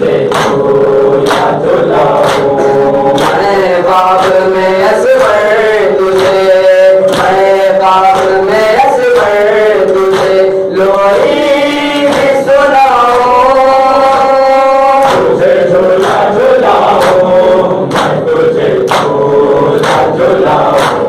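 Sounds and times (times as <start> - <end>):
men singing a slow lament: 0.0 - 21.0
rhythmic chest-beating slaps: 0.0 - 21.0.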